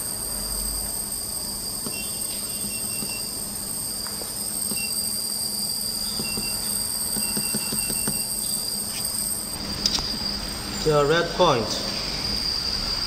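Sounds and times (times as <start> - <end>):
laser welder high-pitched whine: 0.0 - 13.0.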